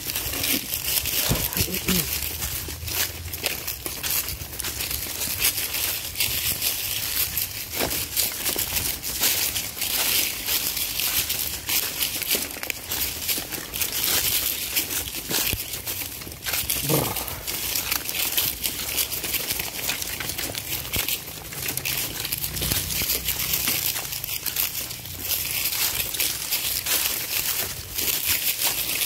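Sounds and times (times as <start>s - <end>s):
footsteps crunching leaves and ballast: 0.0s - 29.0s.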